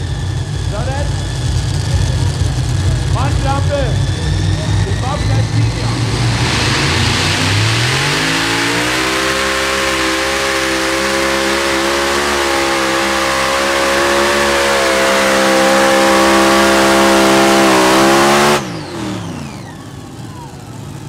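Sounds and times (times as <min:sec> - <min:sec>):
tractor engine at full throttle: 0:00.0 - 0:21.0.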